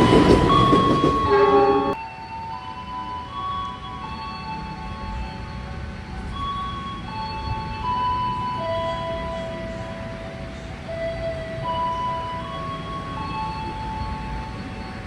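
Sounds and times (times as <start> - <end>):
level-crossing electronic alarm tune: 0.0 - 15.0.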